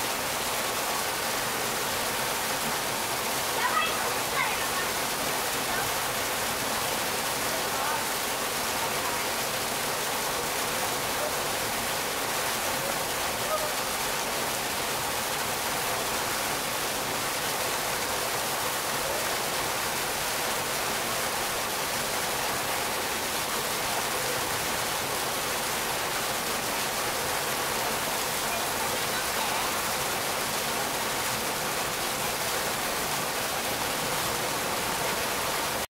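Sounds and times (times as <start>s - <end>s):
waterfall splashing into pool: 0.0s - 35.9s.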